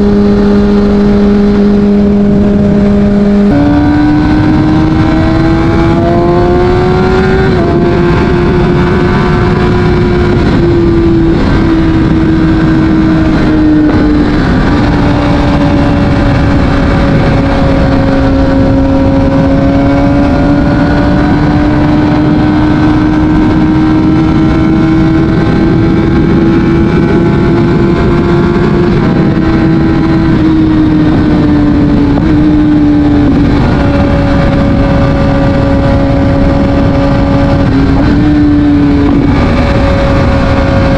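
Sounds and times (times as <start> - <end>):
motorcycle engine cruising: 0.0 - 40.9
steady rushing noise: 0.0 - 40.9.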